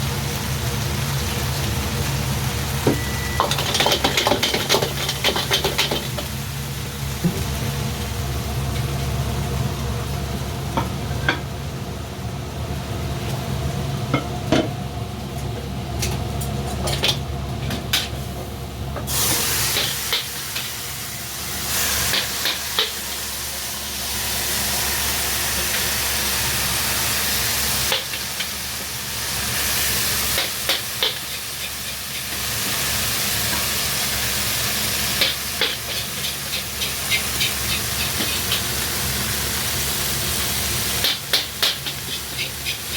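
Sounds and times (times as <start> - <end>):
food sizzling in hot oil: 0.0 - 15.0, 16.8 - 42.9
kitchen low drone: 0.0 - 42.9.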